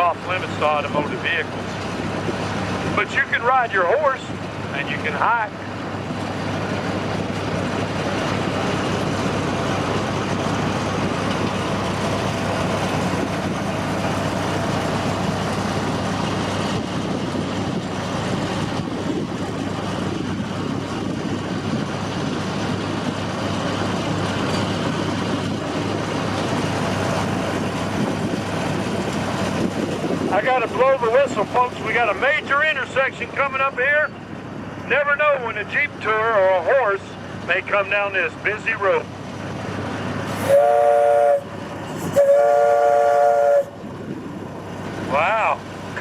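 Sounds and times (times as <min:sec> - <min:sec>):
train rumbling and rattling: 0:00.0 - 0:46.0.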